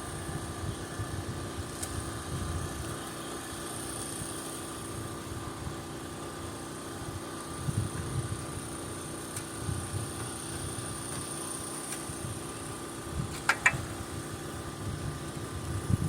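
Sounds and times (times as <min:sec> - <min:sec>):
mechanical hum with low rumble: 0:00.0 - 0:16.0.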